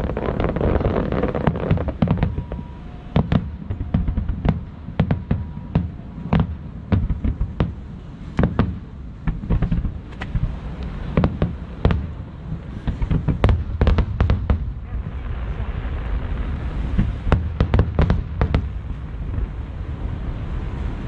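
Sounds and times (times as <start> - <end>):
fireworks bursting with bangs and crackles: 0.0 - 20.8
continuous low rumble: 0.0 - 21.0.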